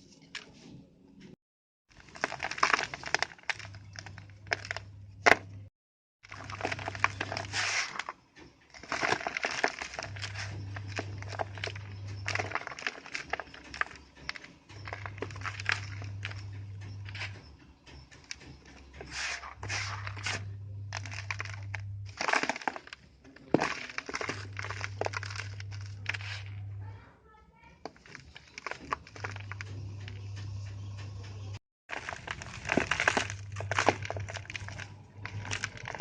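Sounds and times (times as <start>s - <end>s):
dry cement crunching and crumbling: 1.9s - 36.0s.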